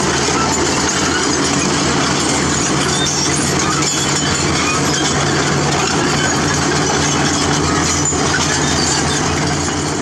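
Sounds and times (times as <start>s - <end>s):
heavy diesel machinery engine drone: 0.0s - 10.0s.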